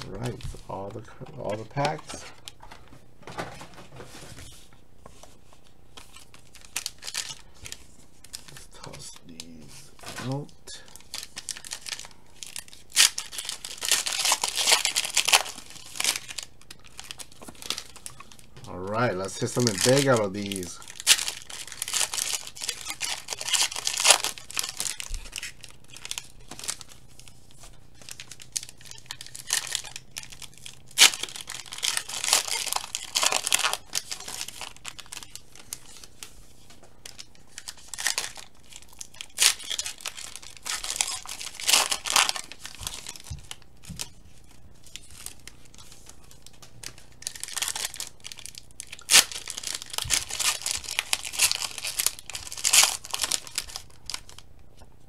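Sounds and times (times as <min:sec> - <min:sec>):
cards being handled: 0:00.0 - 0:54.9
foil wrappers tearing and crinkling: 0:05.6 - 0:54.5.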